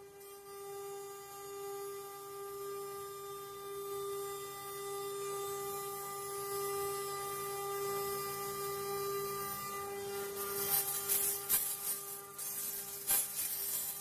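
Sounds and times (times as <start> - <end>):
router spindle humming: 0.0 - 14.0.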